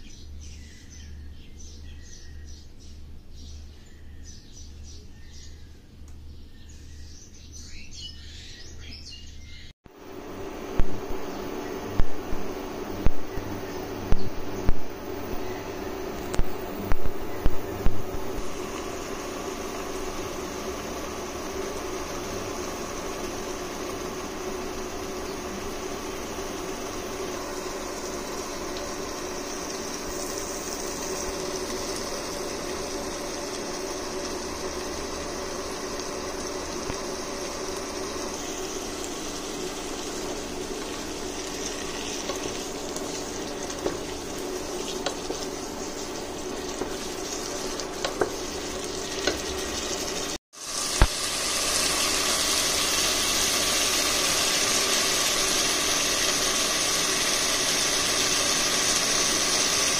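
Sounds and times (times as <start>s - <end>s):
curry simmering and sizzling: 9.8s - 59.9s
steady hum: 9.9s - 59.9s.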